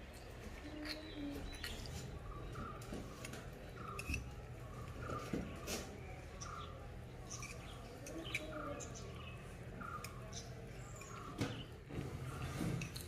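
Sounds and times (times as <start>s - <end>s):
bird chirping: 0.2s - 12.8s.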